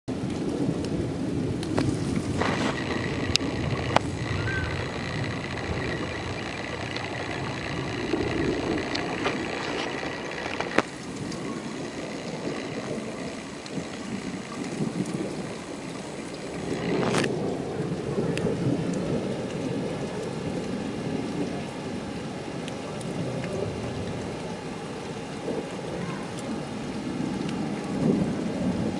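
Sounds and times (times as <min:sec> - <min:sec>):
low rolling thunder: 0:00.1 - 0:28.9
steady rain: 0:00.1 - 0:28.9.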